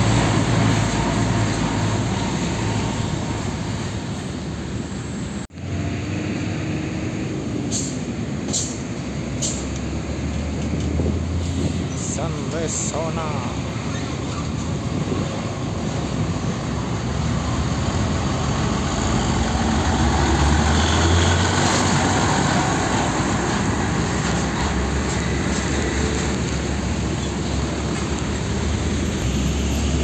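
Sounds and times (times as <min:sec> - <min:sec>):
diesel truck driving past: 0:00.0 - 0:30.0
tyres rolling on road: 0:00.0 - 0:30.0.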